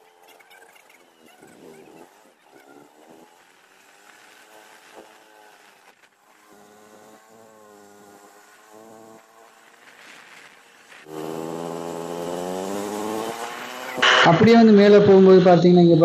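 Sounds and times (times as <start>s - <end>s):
small engine running: 0.0s - 14.4s.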